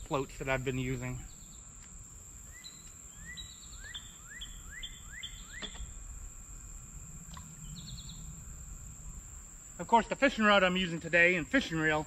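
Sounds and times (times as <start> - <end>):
insects droning: 0.0 - 12.0
songbird singing: 0.0 - 12.0.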